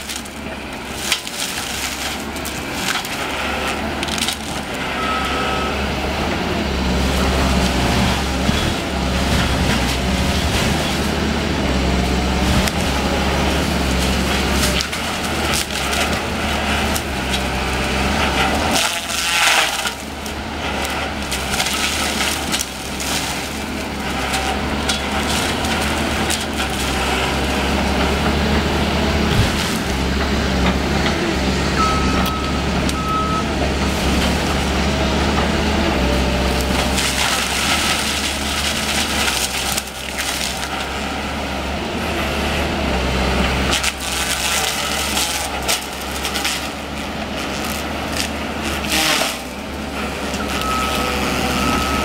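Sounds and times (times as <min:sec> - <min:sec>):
wood cracking and splintering: 0:00.0 - 0:05.6, 0:06.3 - 0:33.1, 0:33.8 - 0:52.0
excavator diesel engine: 0:00.0 - 0:52.0
mulcher grinding: 0:00.0 - 0:52.0.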